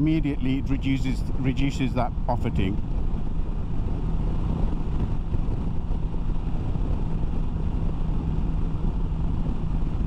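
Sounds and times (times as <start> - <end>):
wind rush: 0.0 - 10.0.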